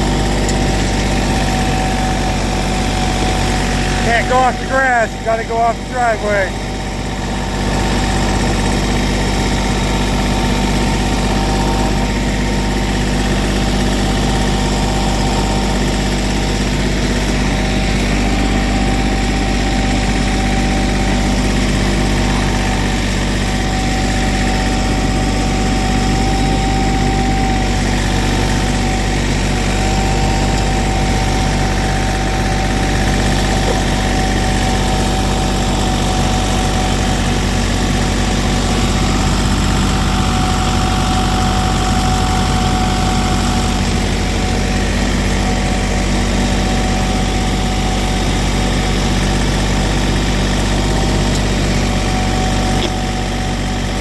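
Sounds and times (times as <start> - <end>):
paving machine engine running: 0.0 - 54.0.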